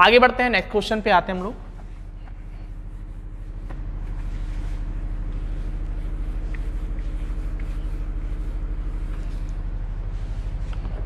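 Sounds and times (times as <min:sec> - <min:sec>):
low pulsing hum: 0:00.0 - 0:11.0
duster rubbing whiteboard: 0:00.8 - 0:11.0.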